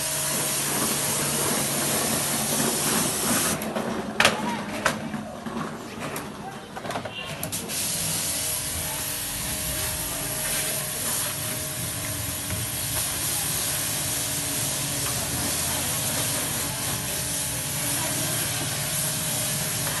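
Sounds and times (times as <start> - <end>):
water jet spraying: 0.0 - 3.6, 7.5 - 20.0.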